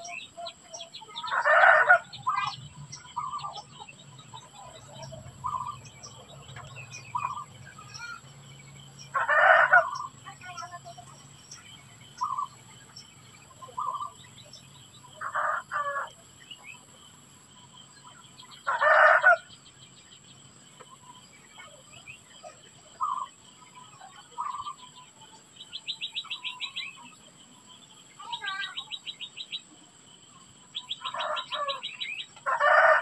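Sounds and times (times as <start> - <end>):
bird calls: 0.0 - 33.0.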